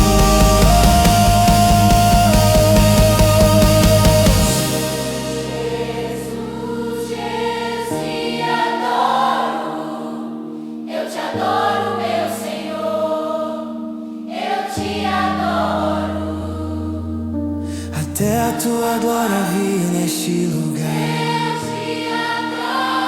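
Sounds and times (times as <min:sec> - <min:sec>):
wordless choir-like singing: 0:00.0 - 0:17.2, 0:17.9 - 0:23.0
slow worship music chords: 0:00.0 - 0:23.0.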